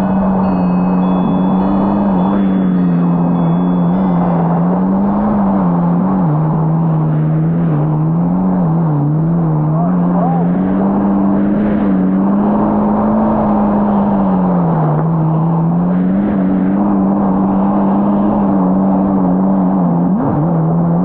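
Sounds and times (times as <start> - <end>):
jet ski engine drone: 0.0 - 21.0
wind: 0.0 - 21.0.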